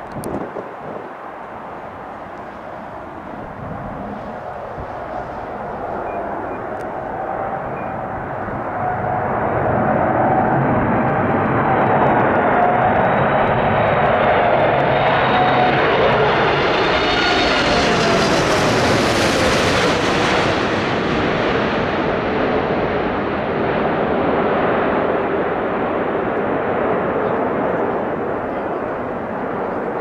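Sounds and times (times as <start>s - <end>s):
jet airliner passing overhead: 0.0s - 30.0s.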